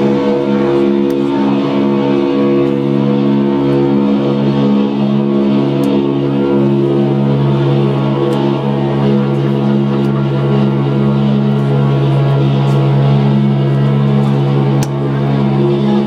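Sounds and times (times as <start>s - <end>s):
amplified guitar chords: 0.0s - 16.0s
keyboard sustained chords: 0.0s - 16.0s.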